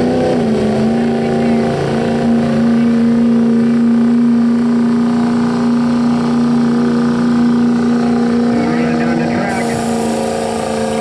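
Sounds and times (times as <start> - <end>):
diesel truck engine at full throttle: 0.0 - 11.0.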